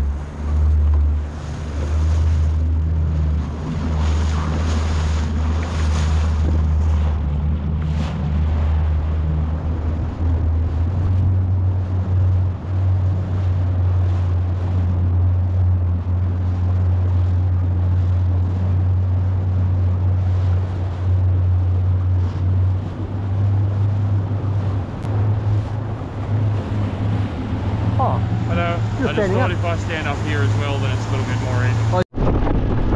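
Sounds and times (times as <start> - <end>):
outboard motor droning: 0.0 - 32.9.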